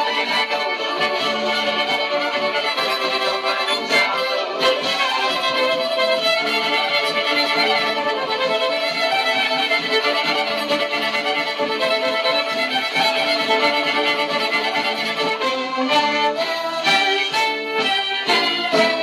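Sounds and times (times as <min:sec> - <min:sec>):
two violins bowed together: 0:00.0 - 0:19.0.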